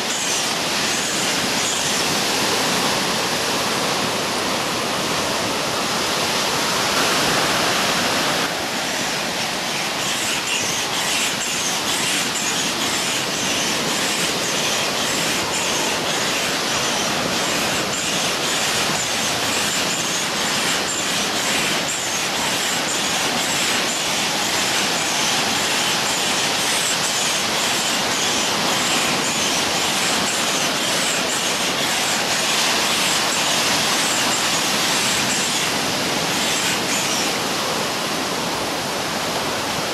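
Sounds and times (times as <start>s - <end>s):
air pump running: 0.0s - 39.9s
ocean surf: 0.0s - 39.9s.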